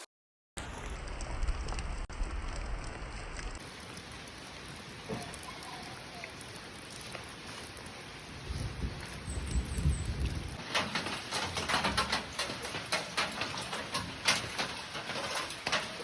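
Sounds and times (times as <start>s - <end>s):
steady rain falling: 0.6s - 16.0s.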